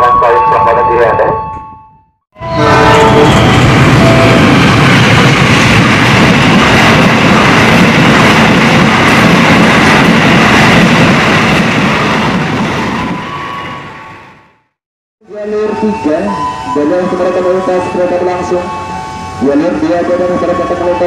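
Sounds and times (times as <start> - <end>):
train passing at speed: 2.4 - 14.7, 15.4 - 21.0.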